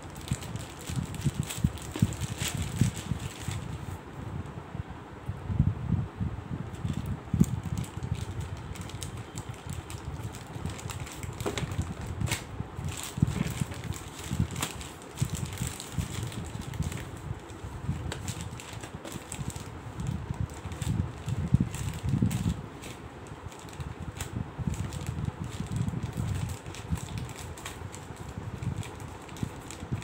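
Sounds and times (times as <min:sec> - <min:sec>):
plastic bag crinkling: 0:00.0 - 0:04.0, 0:06.8 - 0:30.0.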